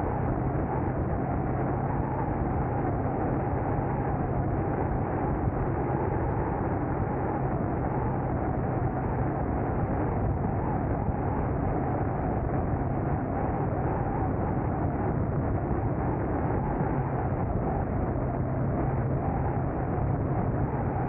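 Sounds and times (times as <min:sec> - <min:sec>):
car engine drone: 0:00.0 - 0:21.0.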